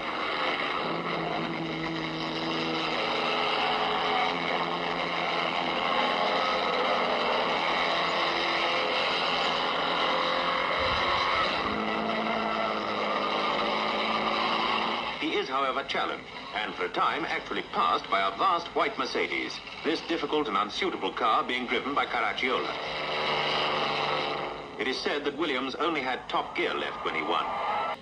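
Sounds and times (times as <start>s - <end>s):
racing car engine drone: 0.0s - 28.0s.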